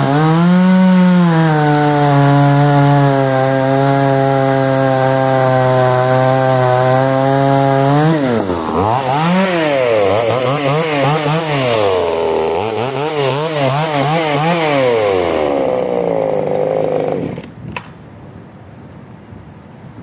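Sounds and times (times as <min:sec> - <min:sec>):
chainsaw revving: 0:00.0 - 0:17.5.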